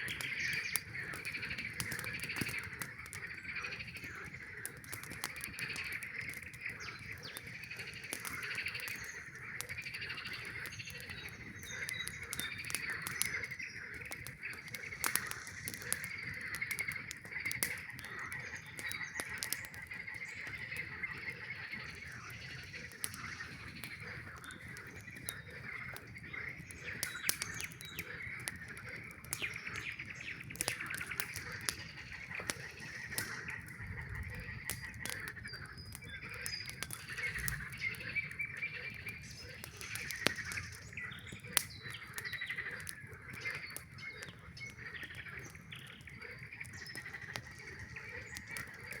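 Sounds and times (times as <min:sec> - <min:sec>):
campfire crackling and popping: 0:00.0 - 0:49.0
frogs trilling: 0:00.0 - 0:49.0.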